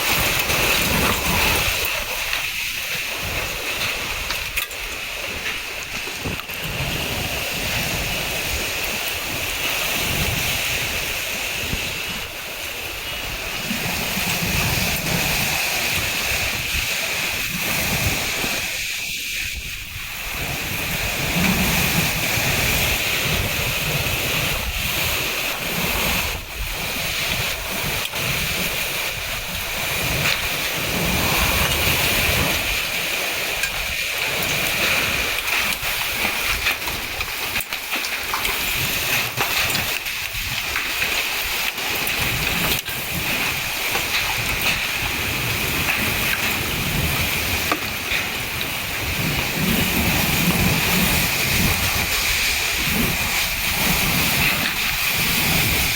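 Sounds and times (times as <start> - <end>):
heavy downpour: 0.0 - 55.9.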